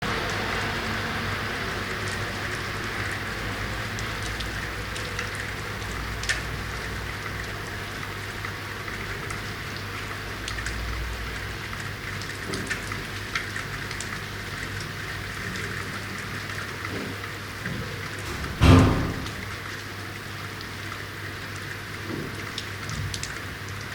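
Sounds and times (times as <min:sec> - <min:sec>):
steady rain hiss: 0:00.0 - 0:23.9.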